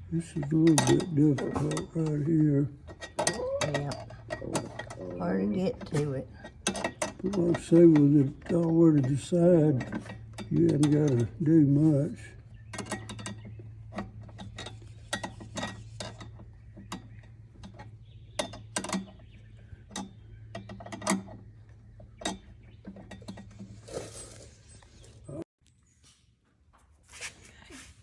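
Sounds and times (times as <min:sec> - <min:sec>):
hand tools clicking on metal: 0:00.0 - 0:25.4.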